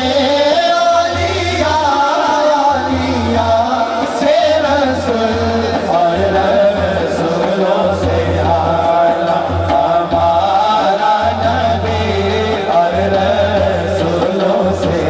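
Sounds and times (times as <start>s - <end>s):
men singing devotional song: 0.0s - 15.0s.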